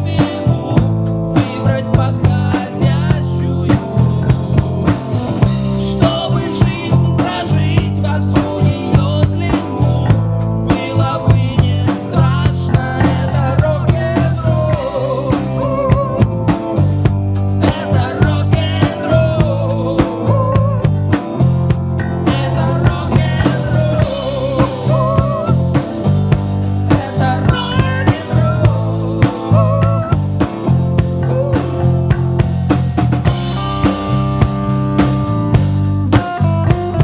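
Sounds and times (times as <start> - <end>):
bass: 0.0 - 37.0
drum kit beat: 0.0 - 37.0.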